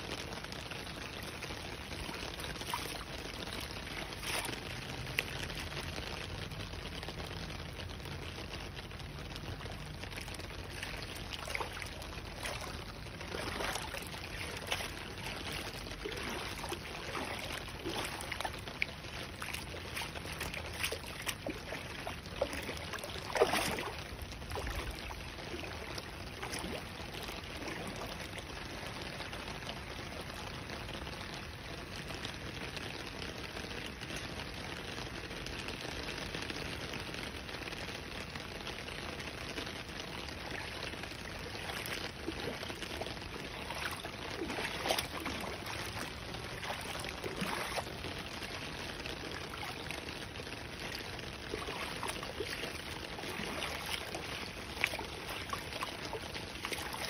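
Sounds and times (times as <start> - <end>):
heavy rain splashing on water: 0.0 - 57.0.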